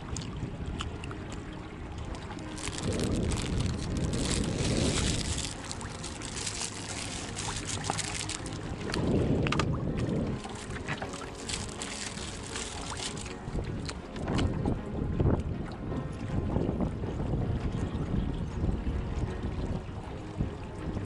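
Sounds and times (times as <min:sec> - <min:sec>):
water lapping against boat hull: 0:00.0 - 0:21.0
wind gusting on microphone: 0:00.0 - 0:21.0.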